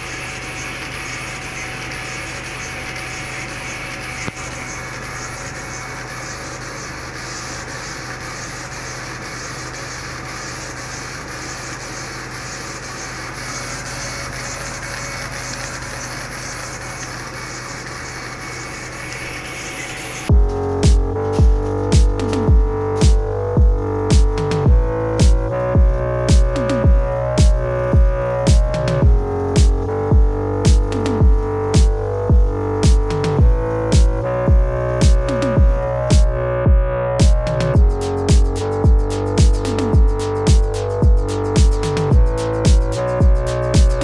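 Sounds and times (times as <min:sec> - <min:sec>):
engraving machine whir and hiss: 0:00.0 - 0:36.3, 0:37.5 - 0:44.0
constant low hum: 0:00.0 - 0:44.0.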